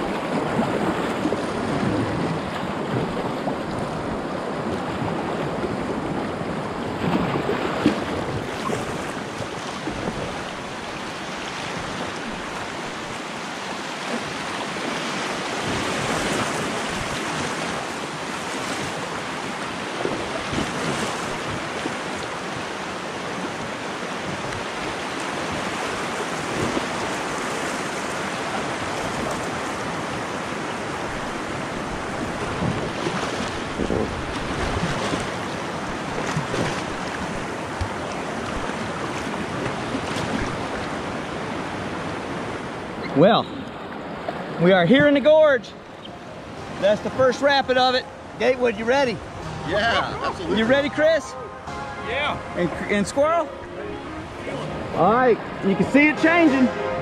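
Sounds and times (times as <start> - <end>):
paddle splashes: 0.0 - 57.0
water rushing over rocky rapids: 0.0 - 57.0.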